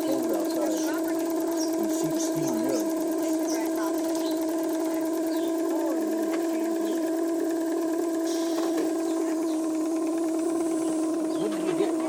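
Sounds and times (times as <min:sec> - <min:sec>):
steam engine humming: 0:00.0 - 0:12.0.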